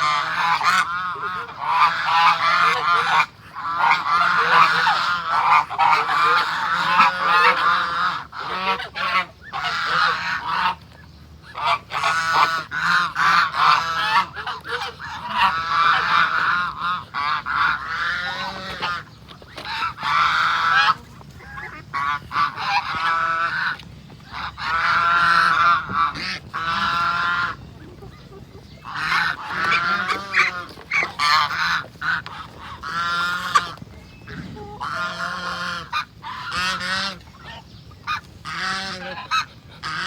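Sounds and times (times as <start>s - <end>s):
geese honking: 0.0s - 40.0s.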